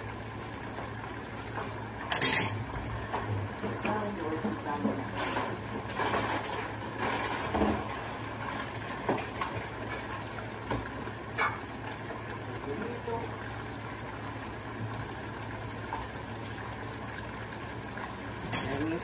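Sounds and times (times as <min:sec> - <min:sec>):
chicken deep-frying in oil: 0:00.0 - 0:19.0
oil crackling and popping: 0:00.1 - 0:19.0.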